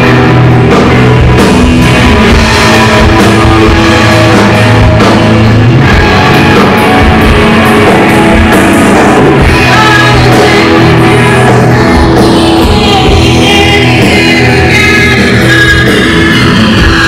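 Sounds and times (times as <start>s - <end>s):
bass guitar: 0.0s - 17.0s
drum kit: 0.0s - 17.0s
electric guitars: 0.0s - 17.0s.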